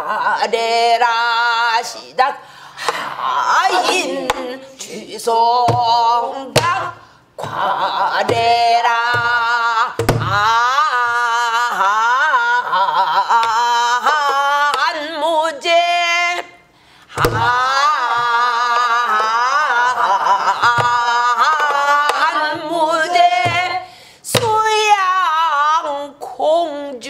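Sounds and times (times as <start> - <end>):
woman singing with wide vibrato: 0.0 - 27.0.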